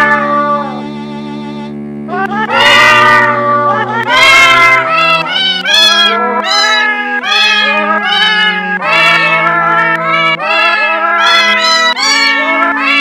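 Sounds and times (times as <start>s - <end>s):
cat meows set to melody: 0.0s - 13.0s
low accompanying notes: 0.0s - 13.0s.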